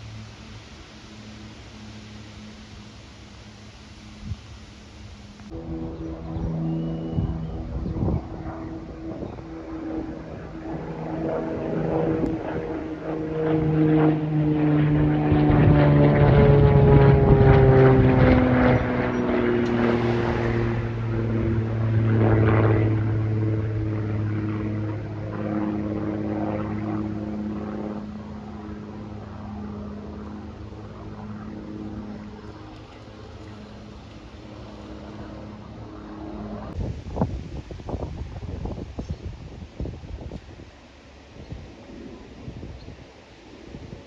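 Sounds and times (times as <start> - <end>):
propeller airplane flying overhead: 0.0 - 44.0.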